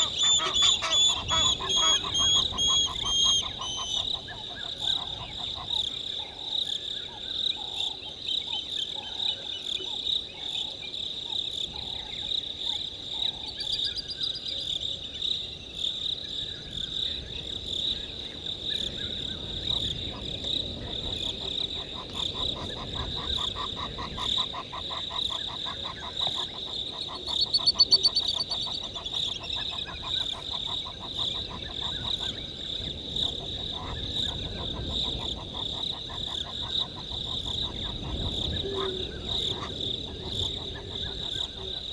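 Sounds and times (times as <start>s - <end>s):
frogs calling in pulsed notes: 0.0s - 16.3s, 16.9s - 41.9s.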